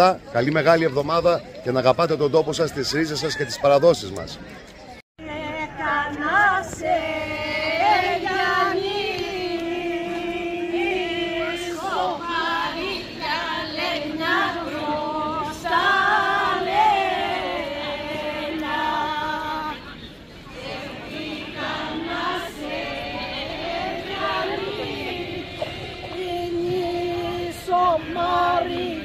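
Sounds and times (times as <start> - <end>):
women singing unaccompanied: 5.2 - 29.0.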